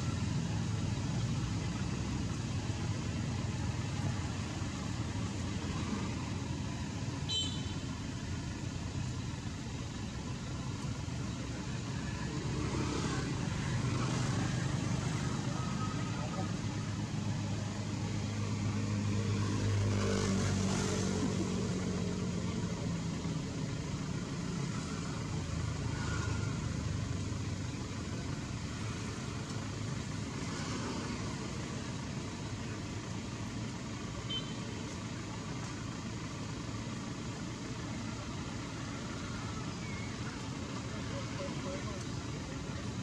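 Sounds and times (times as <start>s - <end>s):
vehicle engine hum: 0.0s - 43.0s.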